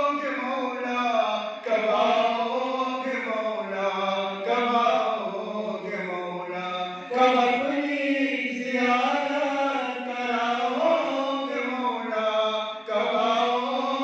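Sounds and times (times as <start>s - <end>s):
man chanting devotional song: 0.0s - 14.0s.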